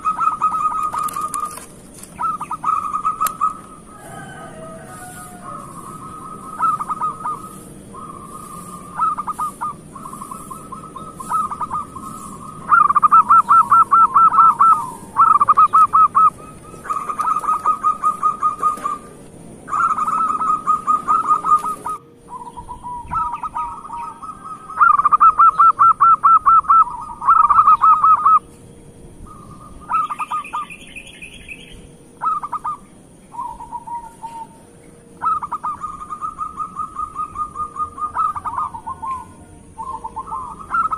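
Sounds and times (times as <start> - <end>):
dove cooing trills: 0.0 - 40.9.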